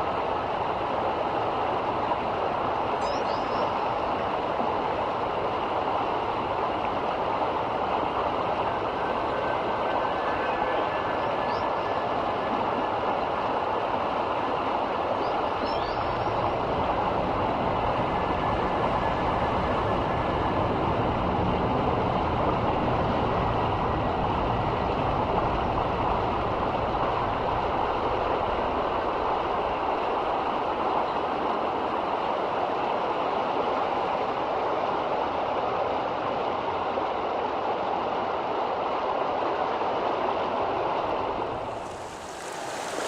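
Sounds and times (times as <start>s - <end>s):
river water rushing: 0.0s - 19.8s, 27.6s - 43.0s.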